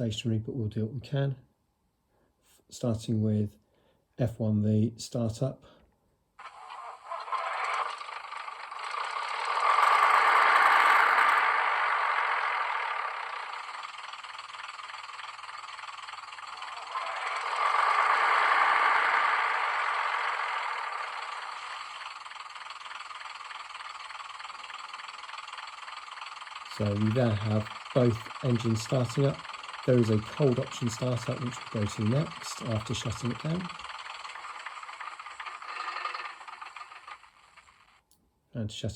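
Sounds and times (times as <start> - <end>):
diesel engines starting and idling: 6.4 - 38.0.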